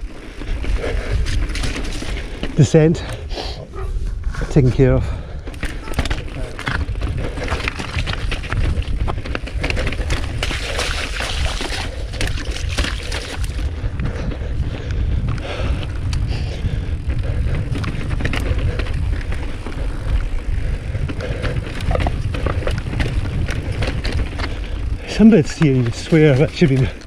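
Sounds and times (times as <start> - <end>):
bike tyres clicking and rattling on rock: 0.0 - 27.0
wind buffeting microphone: 0.0 - 27.0.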